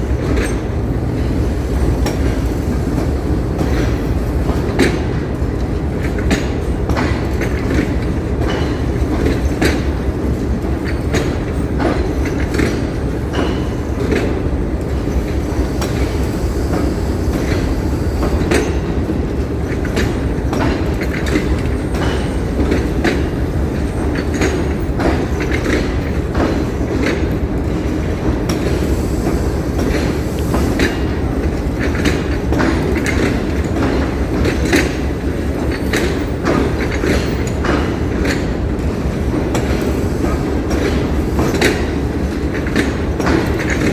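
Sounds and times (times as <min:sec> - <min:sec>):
train coaches rumbling past: 0:00.0 - 0:43.9
wheels clacking over rail joints: 0:00.0 - 0:43.9.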